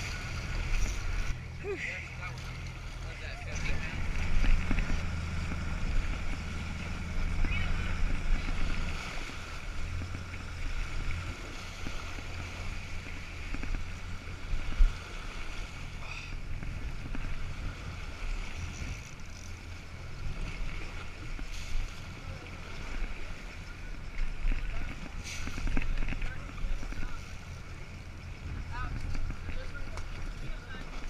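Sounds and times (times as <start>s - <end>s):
boat motor running: 0.0s - 31.0s
wake churning and splashing: 0.0s - 31.0s.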